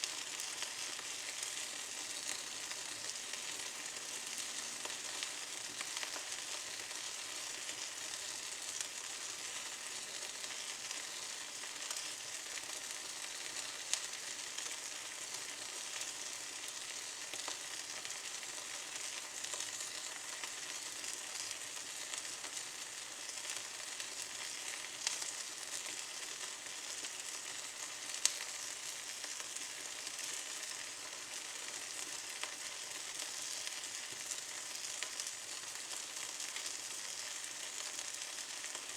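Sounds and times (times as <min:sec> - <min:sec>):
twigs crackling in a fireplace: 0:00.0 - 0:38.9.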